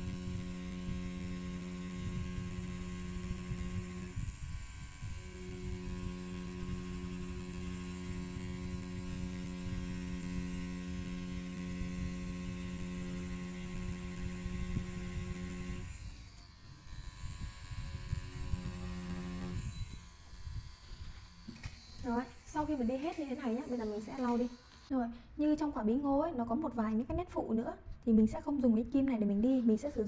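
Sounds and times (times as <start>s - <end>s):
tattoo machine humming: 0.0s - 24.9s.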